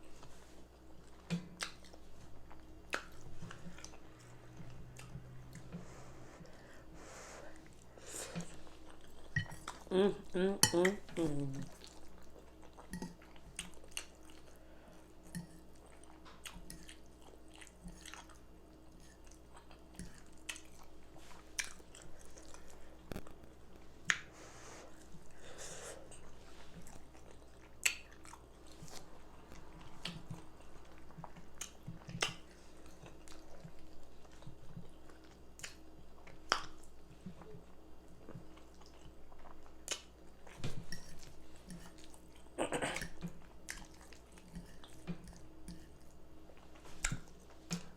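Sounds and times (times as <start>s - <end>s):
person chewing food: 0.0s - 10.0s, 11.6s - 47.9s.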